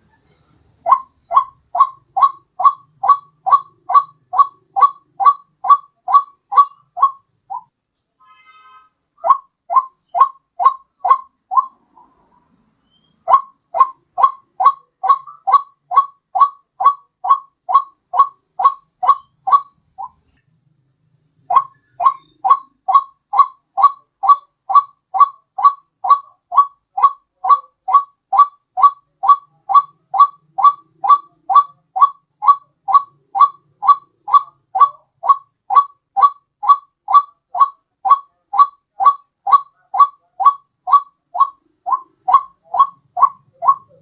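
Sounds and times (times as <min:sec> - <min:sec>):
waterhen calling: 0:00.8 - 0:07.7, 0:09.2 - 0:20.4, 0:21.4 - 0:44.0.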